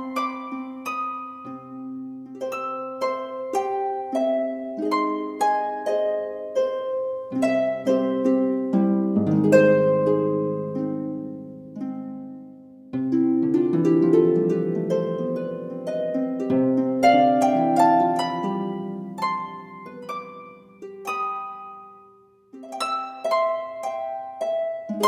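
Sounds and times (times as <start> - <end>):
plucked harp notes: 0.0 - 25.0.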